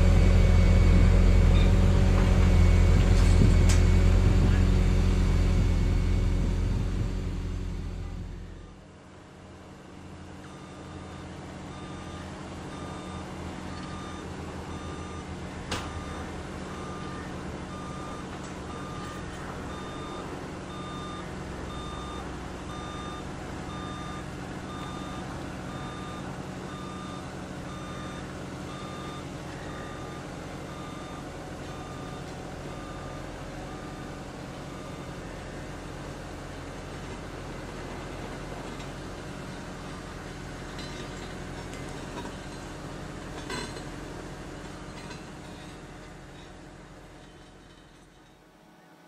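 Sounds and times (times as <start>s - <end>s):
vehicle backup alarm beeping: 0.0s - 8.8s, 10.4s - 35.8s, 38.1s - 46.4s
heavy engine running: 0.0s - 48.4s.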